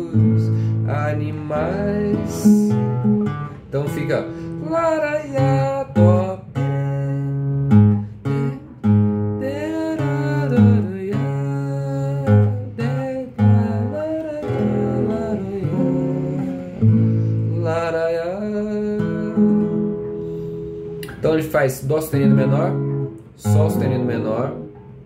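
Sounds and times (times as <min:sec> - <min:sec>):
man singing: 0:00.0 - 0:02.9, 0:03.8 - 0:08.8, 0:09.4 - 0:20.1, 0:21.2 - 0:22.8
nylon-string guitar playing: 0:00.0 - 0:25.0.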